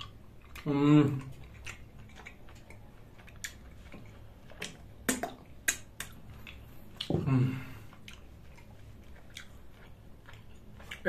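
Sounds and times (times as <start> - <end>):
mouth clicks and lip smacks: 0.0 - 11.0
person chewing: 0.0 - 11.0.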